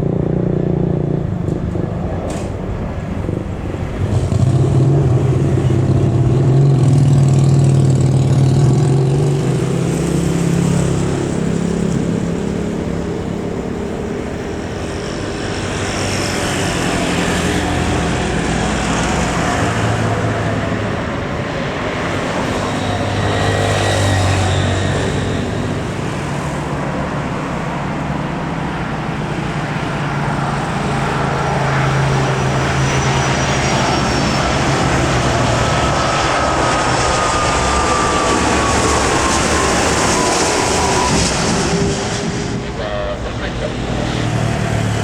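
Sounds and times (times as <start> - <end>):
faint high engine whine: 0.0 - 45.0
jet engines rushing: 0.0 - 45.0.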